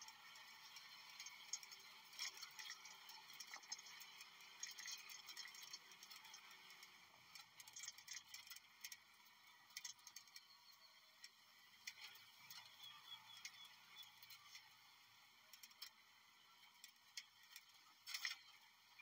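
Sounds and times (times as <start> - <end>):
faint irregular clicks: 0.0 - 19.0.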